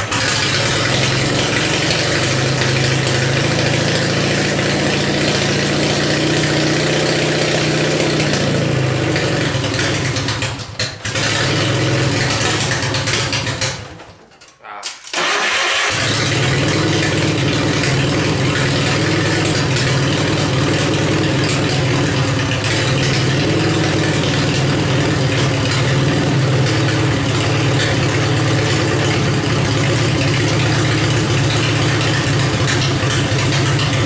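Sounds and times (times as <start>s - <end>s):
engine running steadily: 0.0s - 13.9s, 15.2s - 34.0s.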